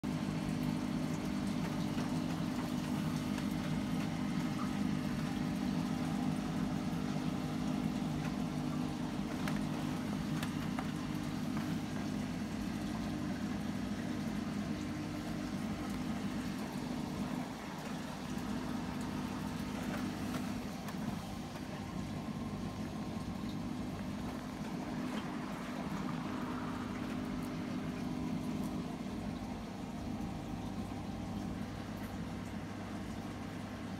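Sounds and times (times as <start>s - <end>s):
aquarium pump humming: 0.0s - 33.9s
water noise: 0.0s - 33.9s.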